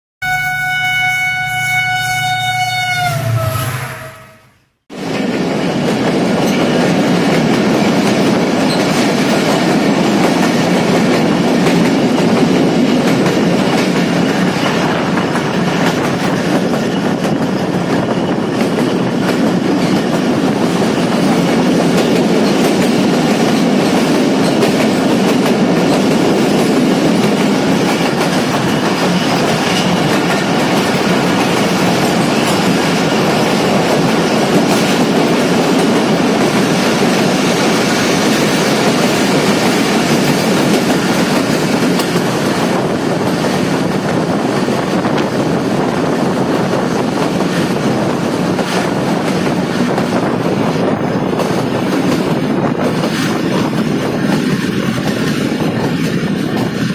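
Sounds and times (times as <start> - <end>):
train wheels rolling on rails: 4.9 - 56.9.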